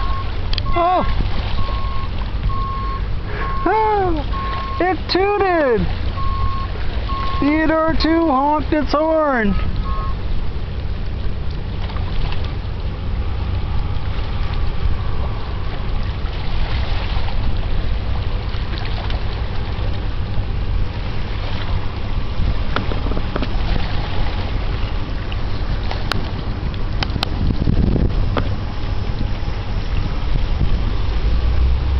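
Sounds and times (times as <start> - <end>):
water and waves: 0.0 - 31.9
wind buffeting microphone: 0.0 - 31.9.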